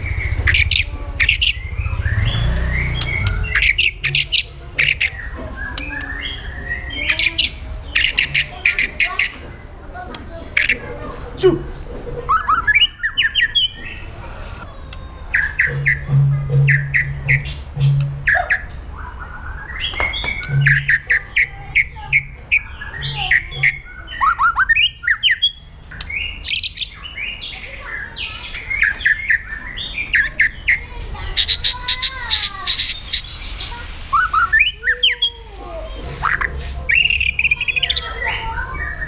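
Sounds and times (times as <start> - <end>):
bird singing: 0.0 - 9.8, 12.3 - 39.0.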